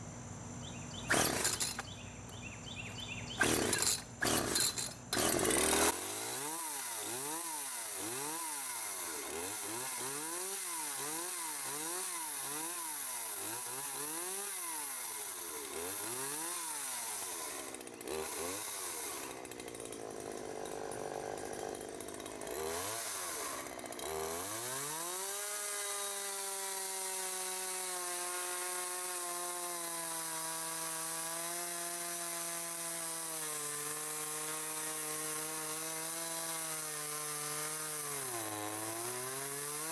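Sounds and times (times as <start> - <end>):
chainsaw revving and cutting wood: 1.0 - 2.4, 3.0 - 39.9.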